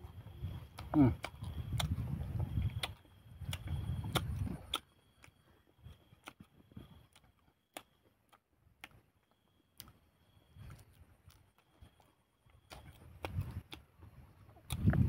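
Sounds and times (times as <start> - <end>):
man chewing leaves: 0.0 - 15.0.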